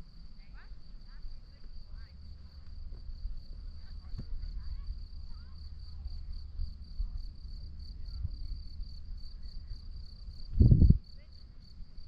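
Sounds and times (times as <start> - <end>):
crickets chirping: 0.0 - 12.0
low rumble: 1.4 - 11.1.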